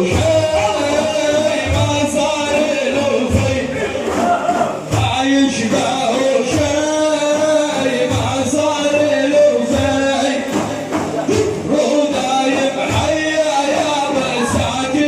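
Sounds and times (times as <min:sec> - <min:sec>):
low drum beat: 0:00.0 - 0:15.0
men singing devotional chant: 0:00.0 - 0:15.0.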